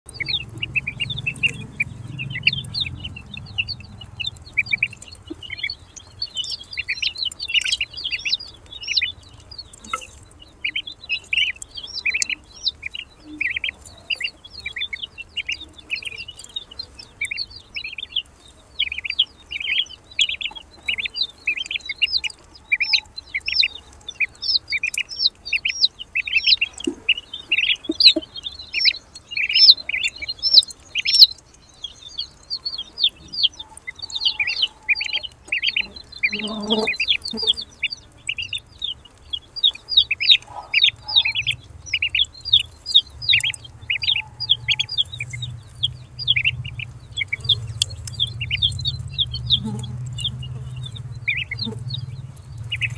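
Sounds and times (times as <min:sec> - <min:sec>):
ducklings peeping: 0:00.1 - 0:52.9.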